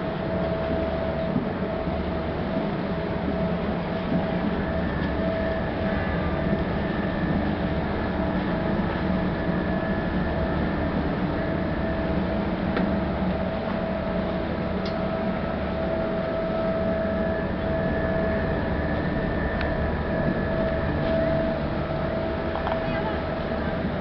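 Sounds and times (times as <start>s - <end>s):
constant machinery hum: 0.0s - 24.0s
ship engines rumbling: 0.0s - 24.0s.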